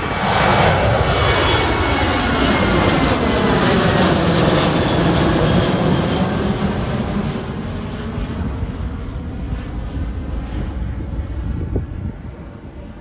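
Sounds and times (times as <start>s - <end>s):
jet airliner roaring past: 0.0s - 13.0s.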